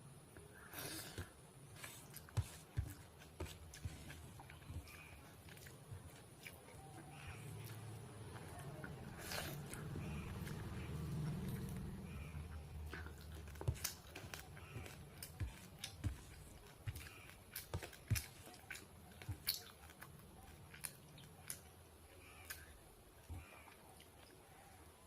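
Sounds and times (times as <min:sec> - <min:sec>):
person chewing food: 0:00.5 - 0:25.0.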